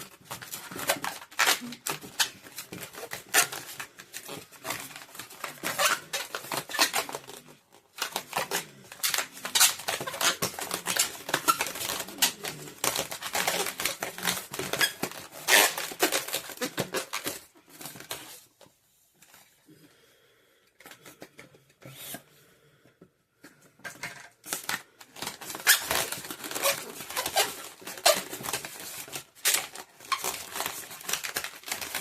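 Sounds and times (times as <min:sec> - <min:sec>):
balloons creaking and crackling: 0:00.0 - 0:19.6, 0:23.4 - 0:32.0.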